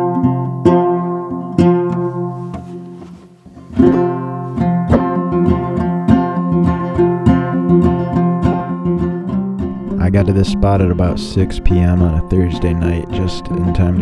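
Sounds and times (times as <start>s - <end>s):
banjo plucking: 0.0s - 14.0s.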